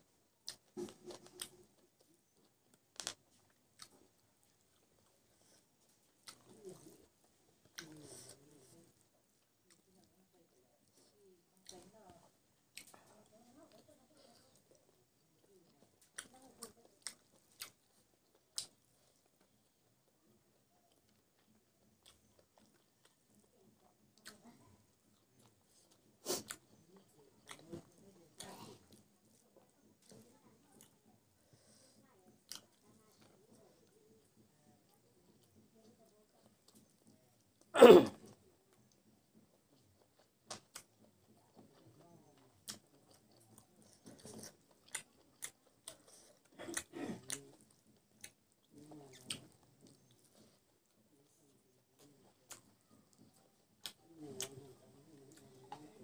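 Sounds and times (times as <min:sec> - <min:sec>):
soft chewing: 0:00.0 - 0:56.0.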